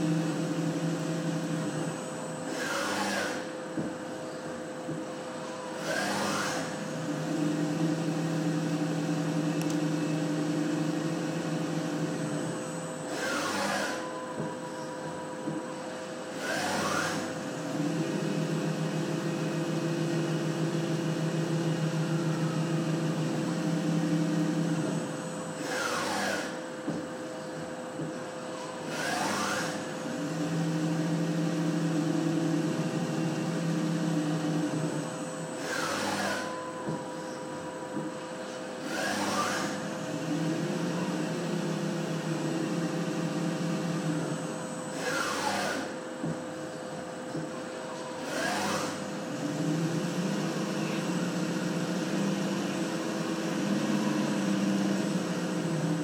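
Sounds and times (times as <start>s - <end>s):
constant high whine: 0.0s - 56.0s
machine tool low hum: 0.0s - 56.0s.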